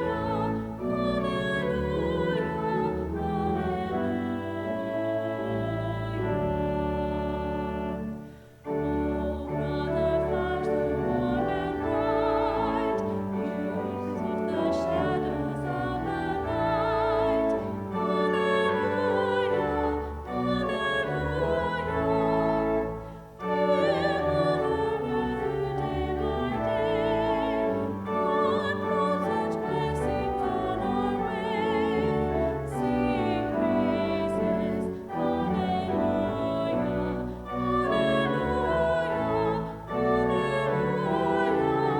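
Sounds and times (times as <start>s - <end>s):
instrumental accompaniment: 0.0s - 41.9s.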